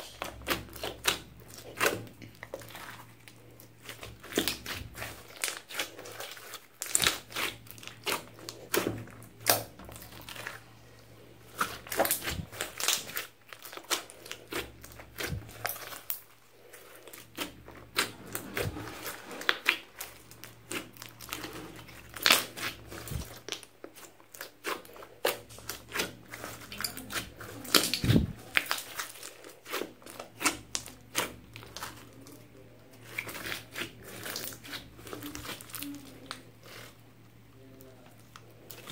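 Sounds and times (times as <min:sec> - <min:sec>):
slime squelching and popping: 0:00.0 - 0:10.7, 0:11.4 - 0:32.4, 0:33.0 - 0:37.0.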